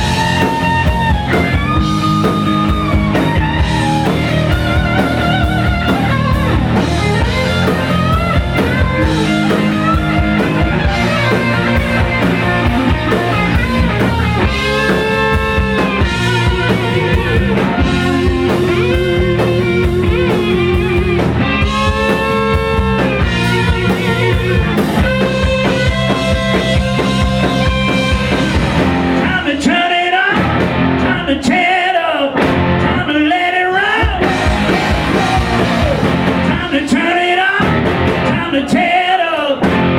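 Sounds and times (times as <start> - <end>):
rock music with electric guitar: 0.0 - 39.9.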